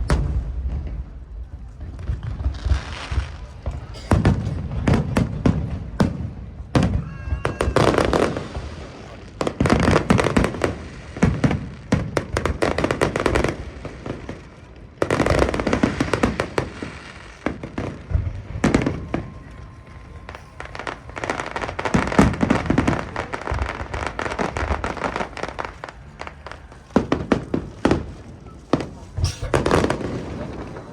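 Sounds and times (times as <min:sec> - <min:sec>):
fireworks booming and crackling: 0:00.0 - 0:30.9.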